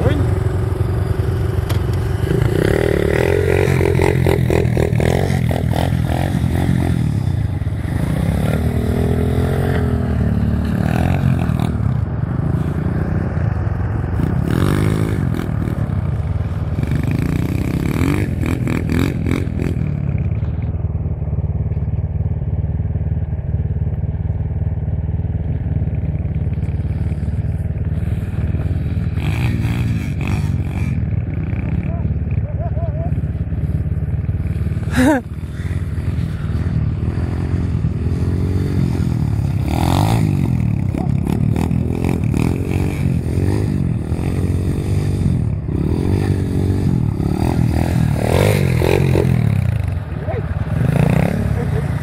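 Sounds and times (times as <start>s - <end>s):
motorbike engine revving: 0.0s - 20.6s, 25.4s - 52.0s
steady low rumble: 0.0s - 52.0s.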